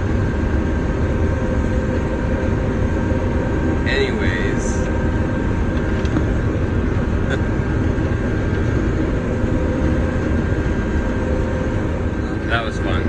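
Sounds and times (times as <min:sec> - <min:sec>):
combine harvester drone: 0:00.0 - 0:13.0
faint steady whine: 0:00.0 - 0:13.0.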